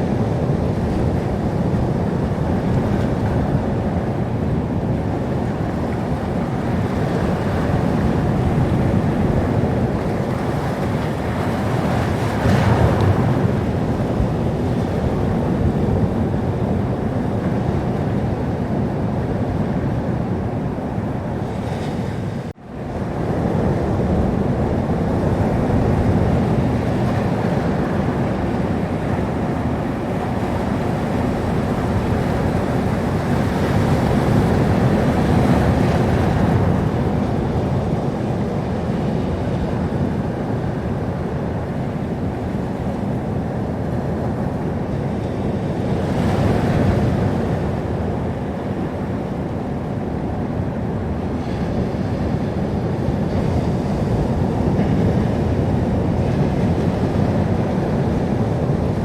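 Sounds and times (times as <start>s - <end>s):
surf washing onto shore: 0.0s - 59.0s.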